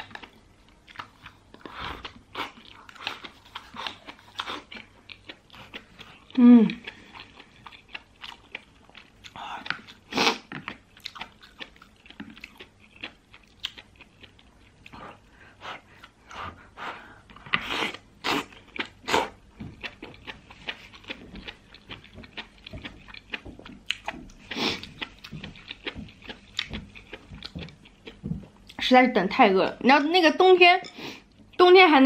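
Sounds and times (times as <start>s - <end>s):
chewing and wet mouth sounds: 0.0s - 28.8s.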